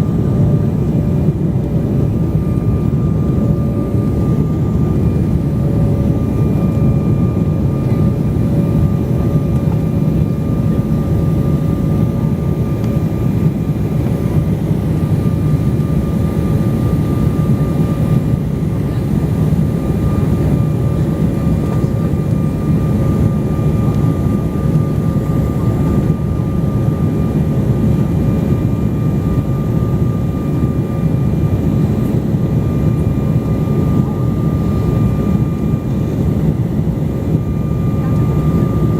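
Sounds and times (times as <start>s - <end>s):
airliner cabin low rumble: 0.0s - 38.9s.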